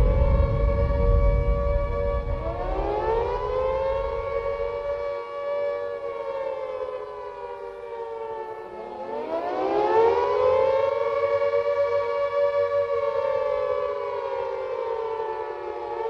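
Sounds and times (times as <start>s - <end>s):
air-raid siren wailing: 0.0s - 16.0s.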